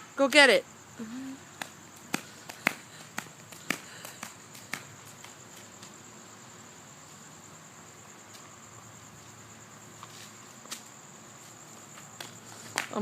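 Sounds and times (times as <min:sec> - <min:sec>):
high-pitched insect trill: 0:00.0 - 0:13.0
light rain hissing: 0:00.0 - 0:13.0.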